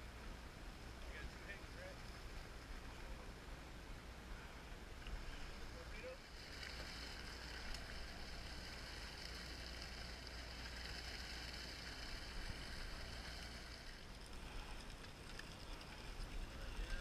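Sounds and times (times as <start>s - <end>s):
boat engine humming: 0.0s - 17.0s
sea water rushing along hull: 1.0s - 17.0s.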